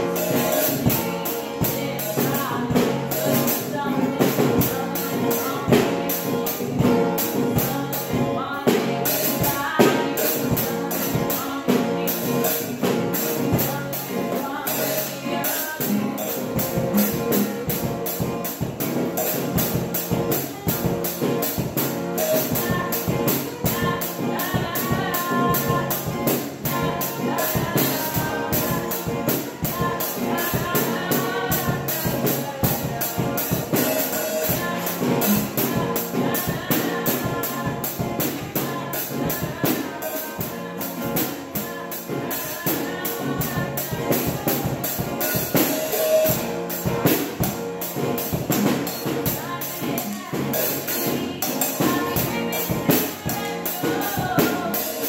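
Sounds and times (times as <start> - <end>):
acoustic guitars strummed: 0.0 - 55.0
drum kit played with sticks: 0.0 - 55.0
woman singing: 0.0 - 55.0.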